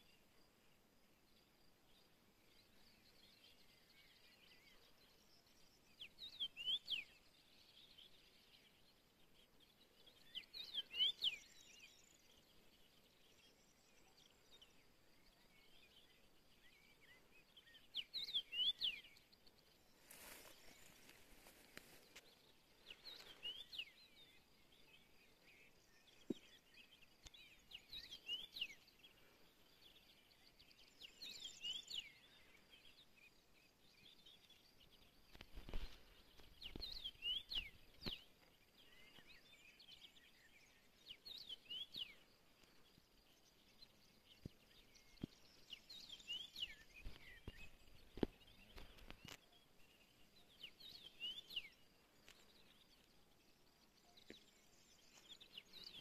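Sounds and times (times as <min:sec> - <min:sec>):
faint birdsong chirps: 0:00.0 - 0:56.0.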